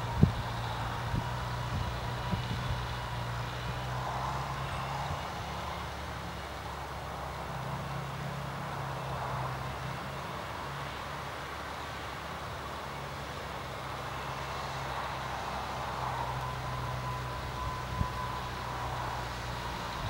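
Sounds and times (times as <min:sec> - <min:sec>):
distant tractor engine running: 0:00.0 - 0:20.0.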